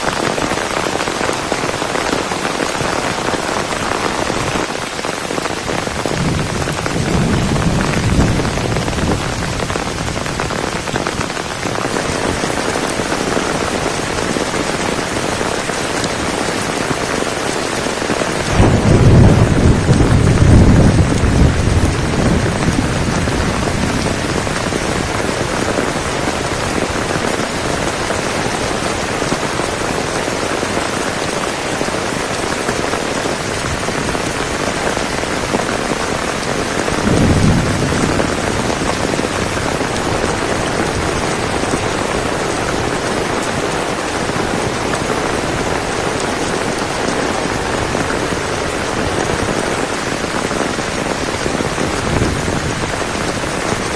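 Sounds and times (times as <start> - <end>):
heavy rain falling: 0.0 - 53.9
thunder rumbling: 1.4 - 32.4, 33.6 - 46.9.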